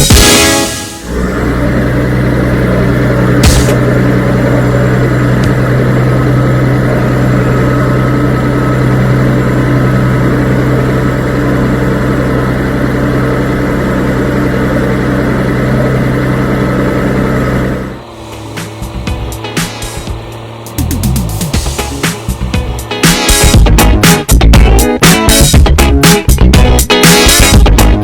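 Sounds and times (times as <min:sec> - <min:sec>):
farm machine engine running: 0:00.0 - 0:28.0.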